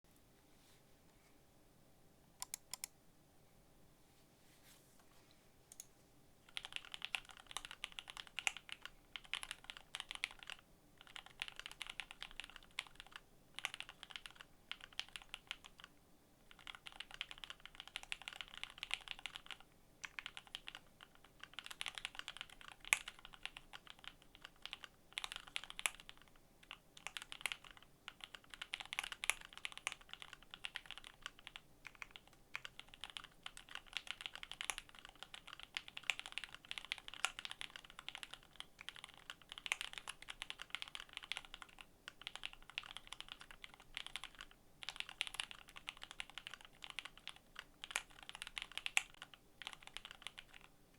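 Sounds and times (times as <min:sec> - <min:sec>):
mechanical keyboard typing: 0:02.4 - 0:02.9, 0:06.5 - 0:15.9, 0:16.5 - 0:50.7.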